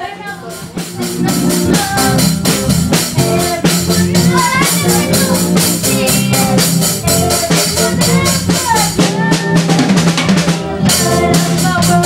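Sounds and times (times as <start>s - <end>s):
drum kit with cymbals: 0.0s - 12.0s
electric guitars: 0.0s - 12.0s.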